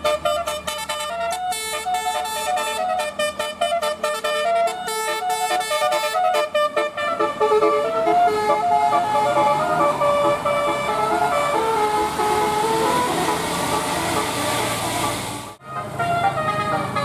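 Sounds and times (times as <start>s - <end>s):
multi-tone bus horn tune: 0.0s - 17.0s.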